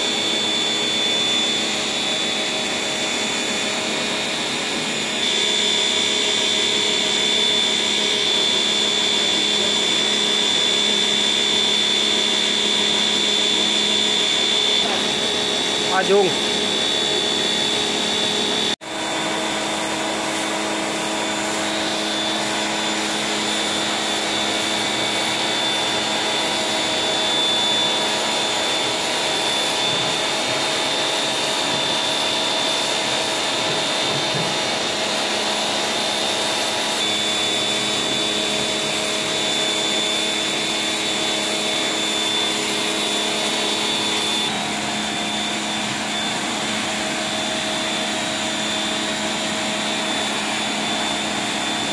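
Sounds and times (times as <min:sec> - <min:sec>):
pressure washer motor humming: 0:00.0 - 0:51.9.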